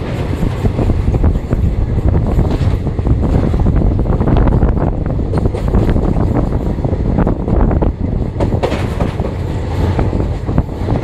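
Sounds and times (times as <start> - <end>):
train rumbling over bridge: 0.0 - 11.0
wheels clicking over rail joints: 0.0 - 11.0.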